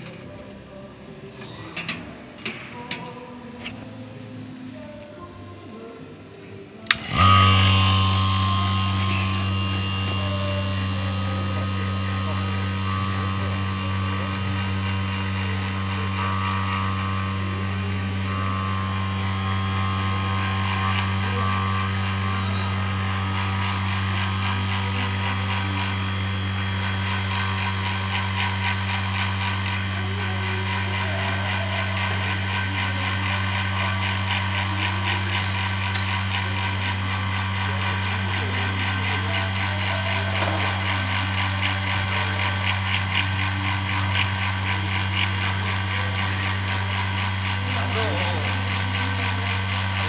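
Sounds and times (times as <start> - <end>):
vacuum pump humming and rattling: 0.0 - 50.0.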